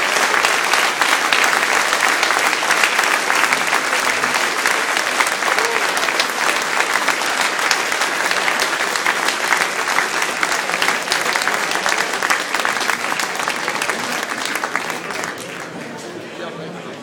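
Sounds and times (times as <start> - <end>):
crowd applauding: 0.0 - 16.2.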